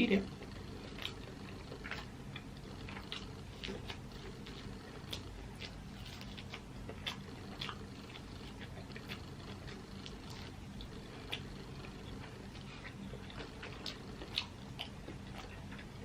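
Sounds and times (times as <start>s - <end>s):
faint low hum: 0.0s - 16.0s
chewing: 0.3s - 16.0s.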